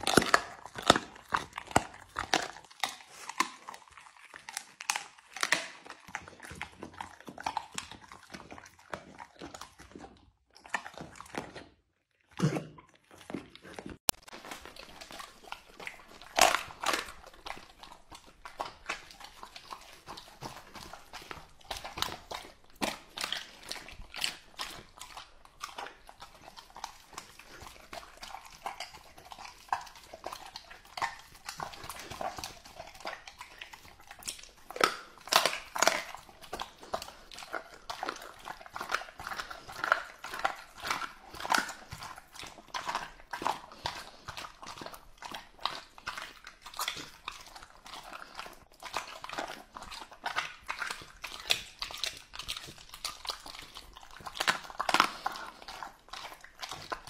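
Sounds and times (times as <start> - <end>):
dog chewing wet meat: 0.0 - 57.0.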